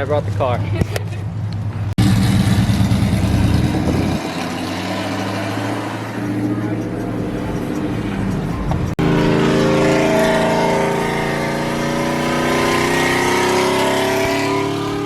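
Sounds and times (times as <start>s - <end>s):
vehicle engine revving high: 2.0s - 15.0s.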